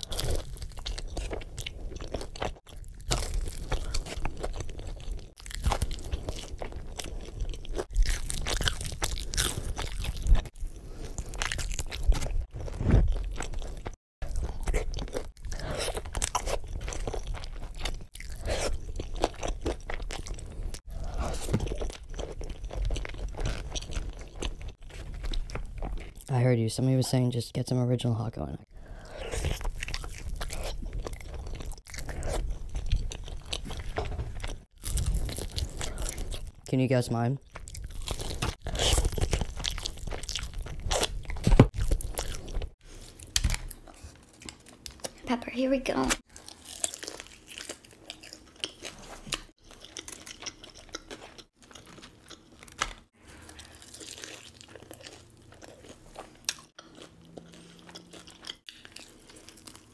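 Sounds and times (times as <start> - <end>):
crunchy chewing: 0.0 - 26.3, 28.9 - 36.6, 37.5 - 45.2, 46.2 - 59.9.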